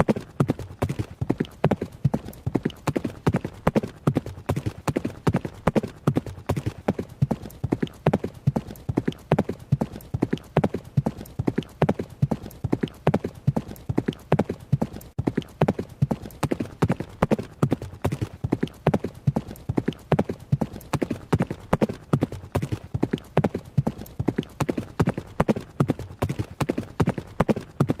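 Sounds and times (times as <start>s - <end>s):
horse hoofbeats: 0.0s - 28.0s.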